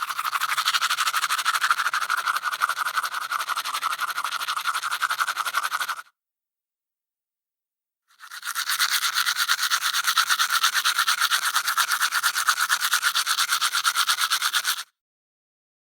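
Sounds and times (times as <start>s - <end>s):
toothbrush scrubbing teeth: 0.0s - 6.0s, 8.1s - 14.9s.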